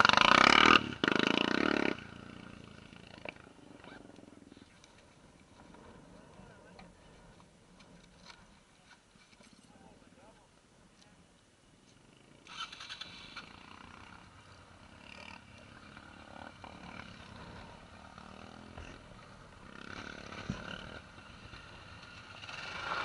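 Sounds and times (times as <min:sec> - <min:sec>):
motorcycle engines revving: 0:00.0 - 0:08.4, 0:11.9 - 0:23.0.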